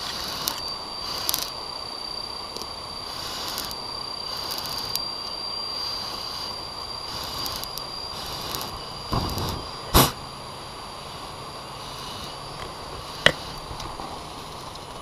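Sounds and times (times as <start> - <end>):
steady hiss: 0.0 - 15.0
thin high steady tone: 0.0 - 15.0.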